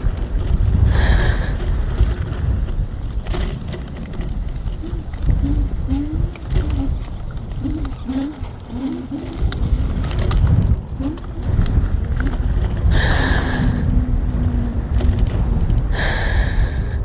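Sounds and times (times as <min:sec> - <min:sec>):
wind and terrain rumble: 0:00.0 - 0:17.0.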